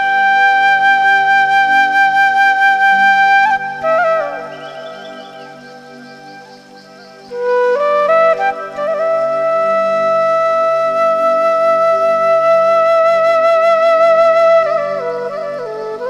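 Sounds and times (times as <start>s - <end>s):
flute melody: 0.0s - 16.0s.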